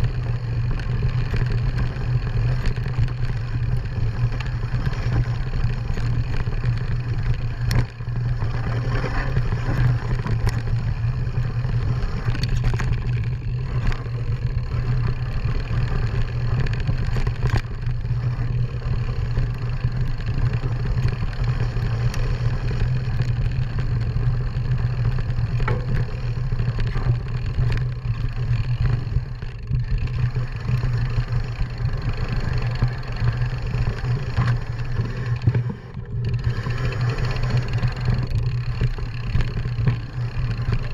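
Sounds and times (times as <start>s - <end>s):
bike rattling over bumps: 0.0s - 40.9s
low drone of bike riding: 0.0s - 40.9s.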